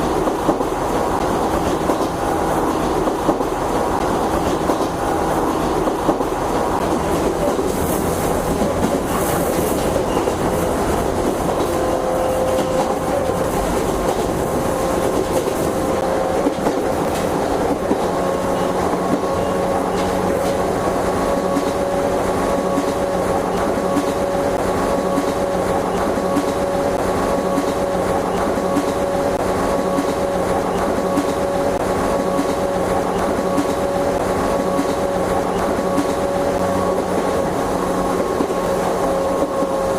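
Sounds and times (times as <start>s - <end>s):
electric train motor whine: 0.0s - 39.9s
wheels clattering on rails: 0.0s - 39.9s.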